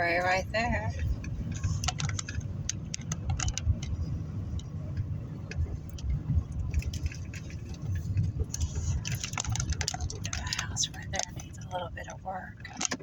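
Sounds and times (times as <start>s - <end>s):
car engine and road noise: 0.0s - 13.0s
light clicks and rattles: 0.0s - 13.0s.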